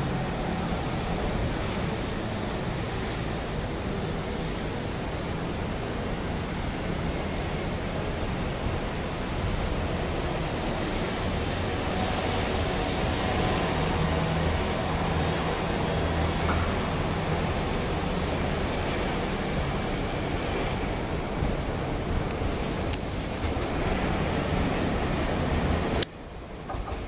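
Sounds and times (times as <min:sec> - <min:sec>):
train approaching rumble: 0:00.0 - 0:27.0.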